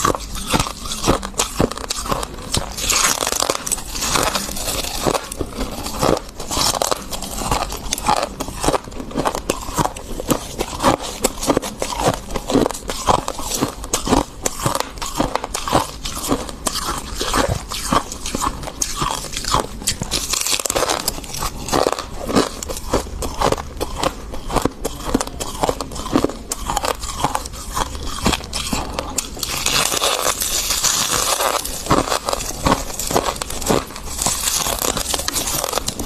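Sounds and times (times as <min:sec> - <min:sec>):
chewing crunchy frost: 0:00.0 - 0:36.0.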